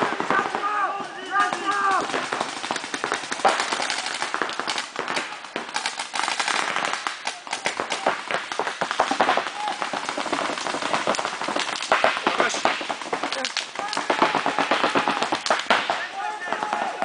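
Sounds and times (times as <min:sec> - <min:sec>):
paintball markers firing: 0:00.0 - 0:17.0.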